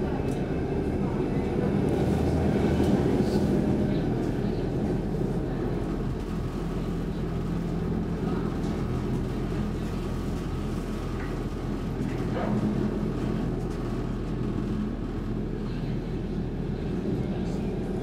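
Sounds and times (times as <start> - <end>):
train cabin rumble: 0.0 - 18.0.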